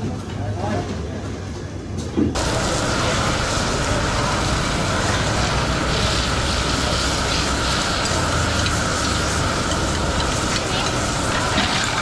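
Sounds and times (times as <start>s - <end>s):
gas burners running: 2.2s - 12.0s
beef sizzling in pans: 2.4s - 12.0s.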